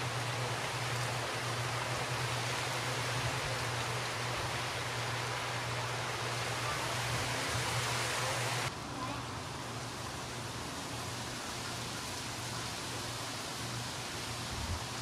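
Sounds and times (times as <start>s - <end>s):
wind through palm fronds: 0.0s - 15.0s.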